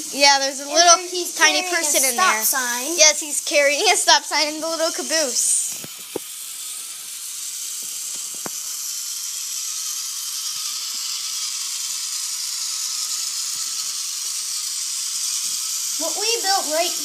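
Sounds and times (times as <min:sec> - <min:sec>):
toy train motor whirring: 0:00.0 - 0:17.0.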